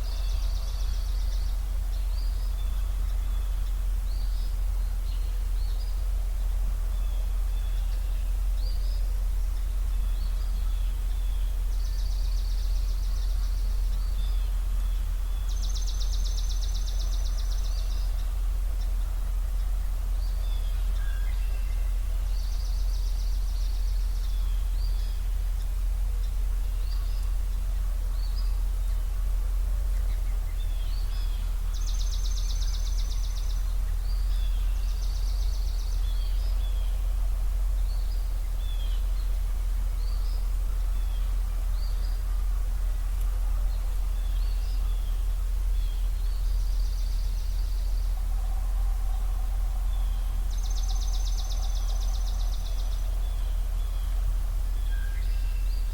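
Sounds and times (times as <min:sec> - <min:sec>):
low background rumble: 0:00.0 - 0:55.9
songbirds chirping and trilling: 0:00.0 - 0:55.9.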